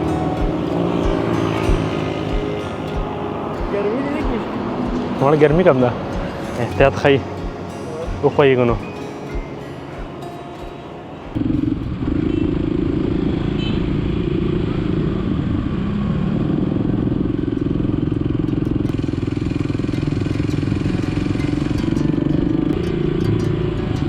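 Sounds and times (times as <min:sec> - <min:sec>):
motorcycle engine running: 0:00.0 - 0:10.2, 0:11.3 - 0:24.0
road noise: 0:00.0 - 0:24.0.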